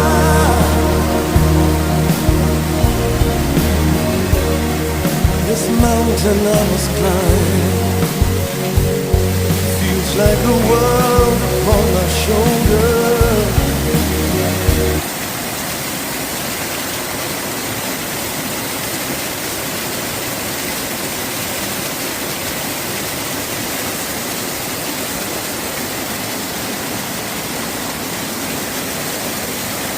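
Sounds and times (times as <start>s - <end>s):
running water rushing: 0.0s - 29.9s.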